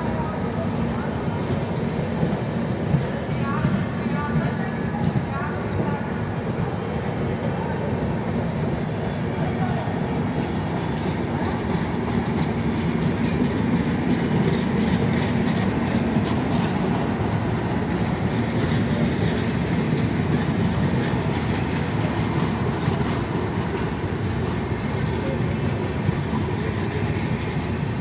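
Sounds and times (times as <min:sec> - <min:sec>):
train wheels rumbling on rail: 0:00.0 - 0:28.0
wheels clicking over rail joints: 0:01.5 - 0:28.0.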